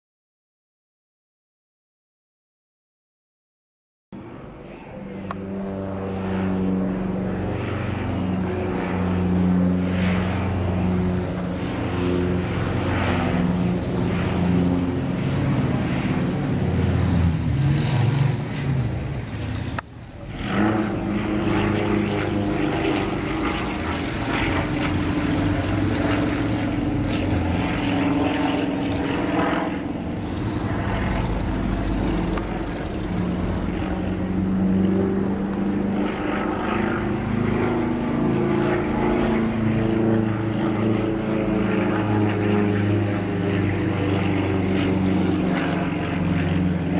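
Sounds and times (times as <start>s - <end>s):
propeller airplane engine: 4.1s - 46.9s.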